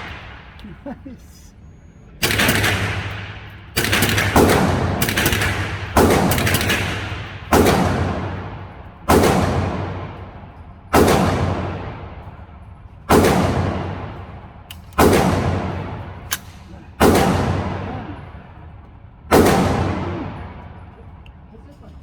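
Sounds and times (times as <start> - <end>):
rifle shots with echo: 0.0 - 0.8, 2.2 - 18.7, 19.3 - 21.2.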